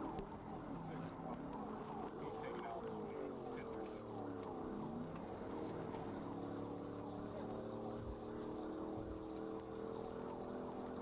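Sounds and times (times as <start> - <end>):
car engine at speed: 0.0 - 11.0
road noise: 0.0 - 11.0.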